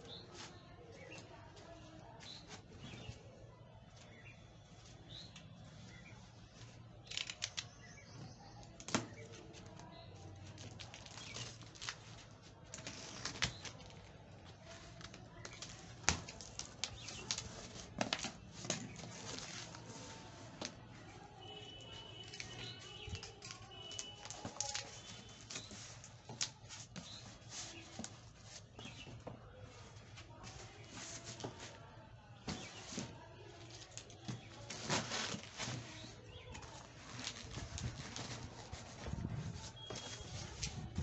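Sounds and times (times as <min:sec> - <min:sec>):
cardboard crackling and rustling: 0:00.1 - 0:41.0.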